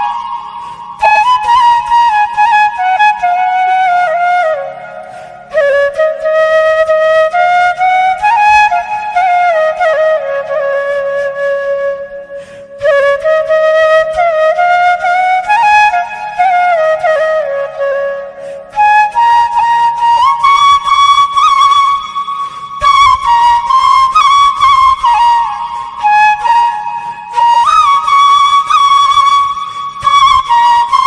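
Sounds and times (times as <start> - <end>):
solo flute melody: 0.0 - 31.0.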